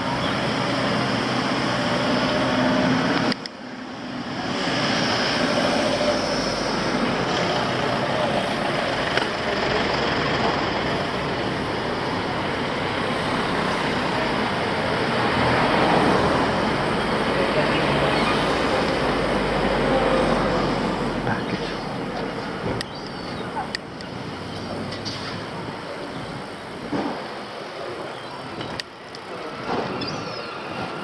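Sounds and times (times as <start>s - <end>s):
bicycle road and wind noise: 0.0s - 31.0s.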